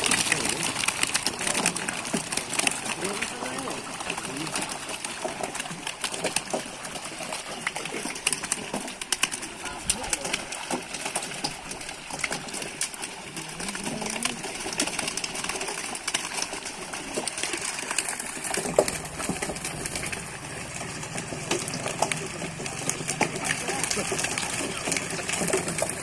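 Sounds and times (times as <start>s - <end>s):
fish thrashing water splashes: 0.0s - 26.0s.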